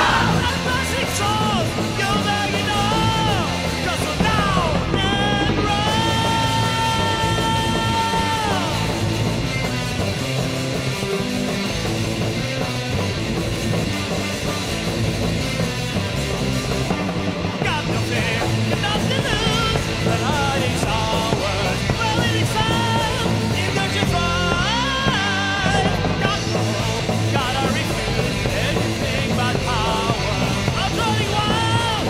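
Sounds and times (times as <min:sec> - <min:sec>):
heavy metal music: 0:00.0 - 0:32.0
wavering lead guitar lines: 0:00.0 - 0:32.0.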